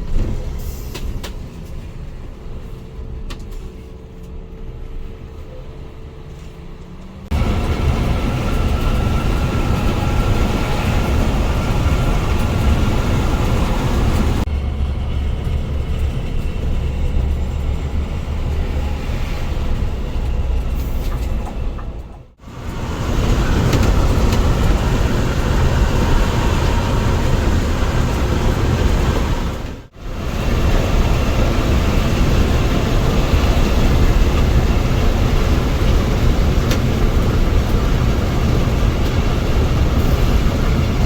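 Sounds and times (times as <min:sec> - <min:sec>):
coach engine and road noise: 0:00.0 - 0:41.0.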